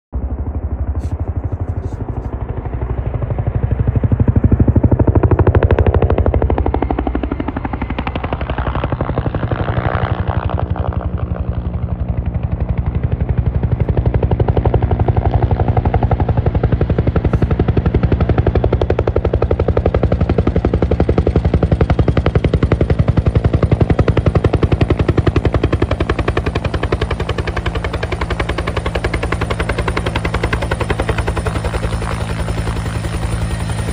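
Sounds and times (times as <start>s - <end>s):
helicopter low hum: 0.1s - 33.9s
helicopter rotor beating: 0.2s - 33.9s.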